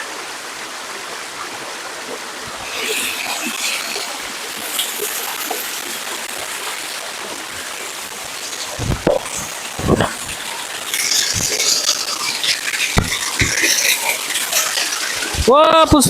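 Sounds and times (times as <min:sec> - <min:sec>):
water splashing: 0:00.0 - 0:16.0
waterfall and stream rushing: 0:00.0 - 0:16.0.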